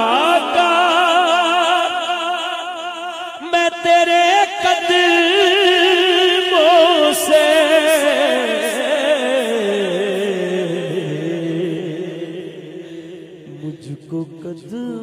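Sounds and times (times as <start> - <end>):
man singing a long vibrato note: 0.0 - 15.0.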